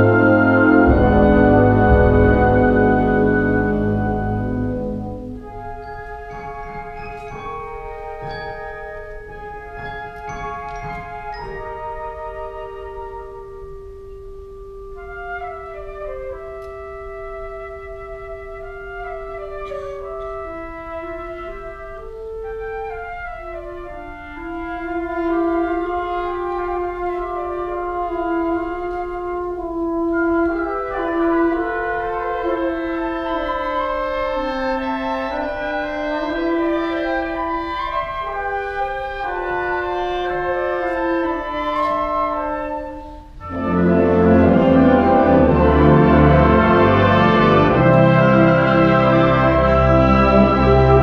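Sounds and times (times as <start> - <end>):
wind band playing: 0.0 - 51.0.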